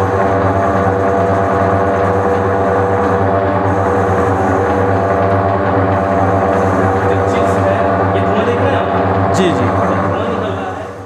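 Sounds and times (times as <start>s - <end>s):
lathe motor humming: 0.0s - 11.0s.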